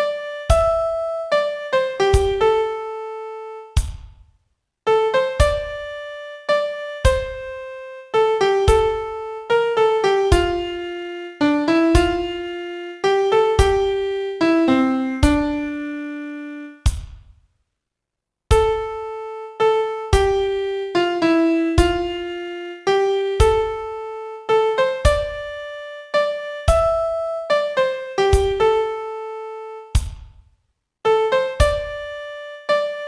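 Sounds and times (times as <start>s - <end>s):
solo piano melody: 0.0s - 3.8s, 4.9s - 16.9s, 18.5s - 30.0s, 31.1s - 33.0s.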